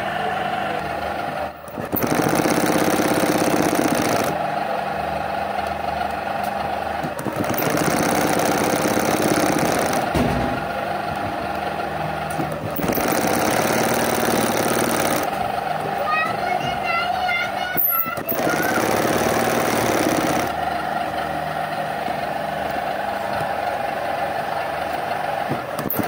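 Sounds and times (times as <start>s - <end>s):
motor hum: 0.0s - 26.0s
sewing machine stitching: 0.8s - 26.0s.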